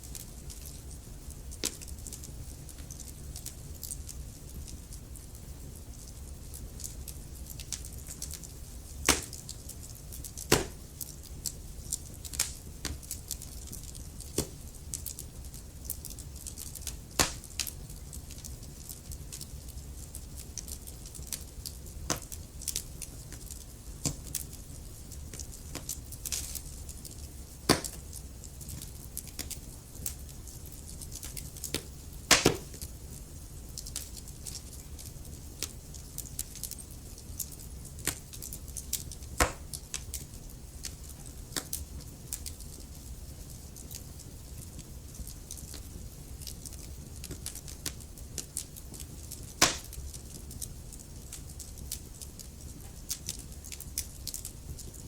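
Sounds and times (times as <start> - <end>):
sharp pops from fire: 0.0 - 55.0
wood fire crackling: 0.0 - 55.0.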